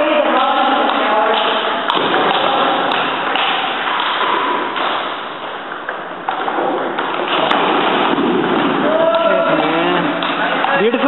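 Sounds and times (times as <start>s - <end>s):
constant background noise: 0.0s - 11.0s.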